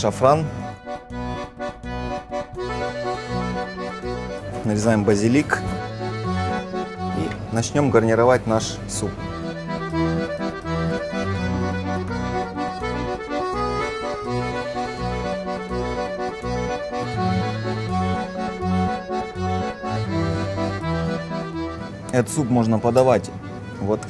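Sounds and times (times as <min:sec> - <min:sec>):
accordion music: 0:00.0 - 0:24.0.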